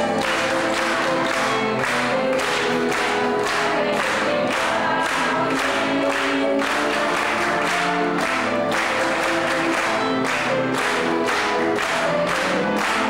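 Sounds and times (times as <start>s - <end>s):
people singing: 0.0s - 13.0s
piano: 0.0s - 13.0s
violin: 0.0s - 13.0s.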